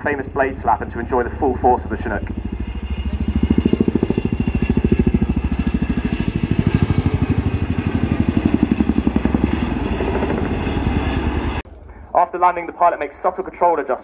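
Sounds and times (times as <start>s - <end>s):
helicopter rotor blade slap: 0.0s - 11.6s.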